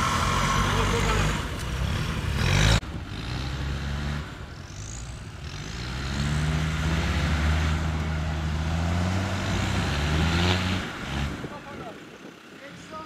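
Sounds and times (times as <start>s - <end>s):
off-road vehicle engine revving: 0.0s - 11.9s.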